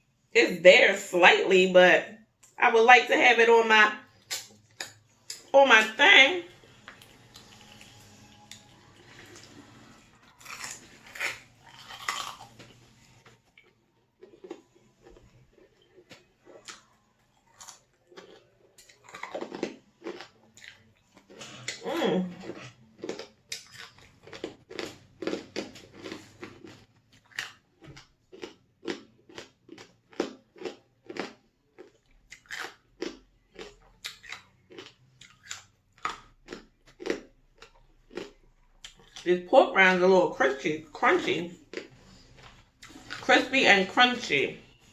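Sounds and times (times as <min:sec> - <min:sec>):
biting and chewing food: 0:04.0 - 0:05.6, 0:06.4 - 0:39.4, 0:40.0 - 0:44.9.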